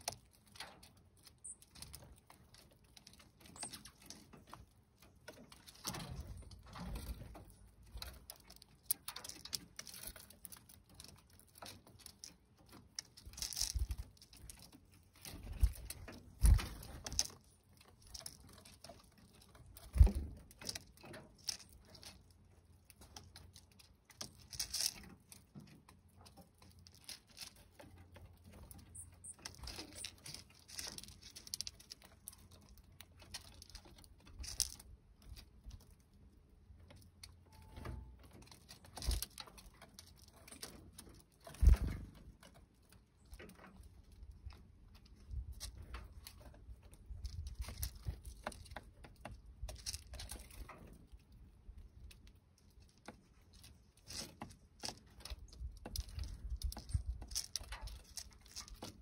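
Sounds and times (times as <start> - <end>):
bird picking through seeds: 0.0 - 35.9, 36.9 - 51.1, 52.0 - 59.0.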